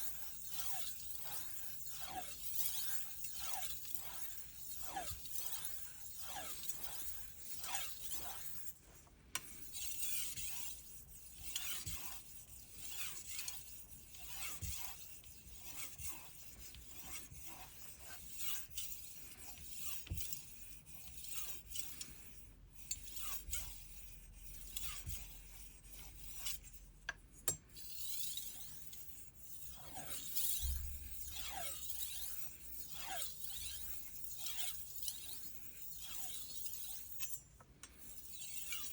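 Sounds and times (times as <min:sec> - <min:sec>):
knife scraping on whetstone: 0:00.0 - 0:08.8, 0:09.5 - 0:26.7, 0:27.8 - 0:37.4.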